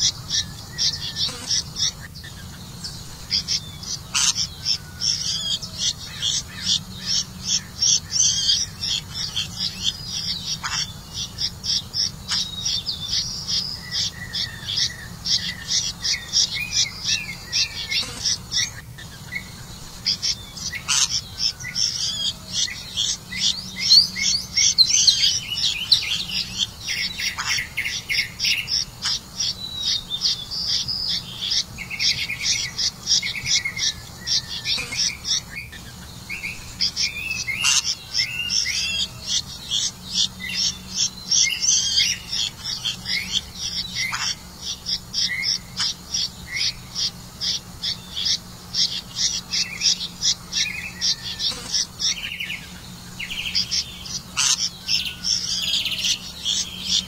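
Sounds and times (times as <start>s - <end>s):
nestlings chirping: 0.0s - 57.0s.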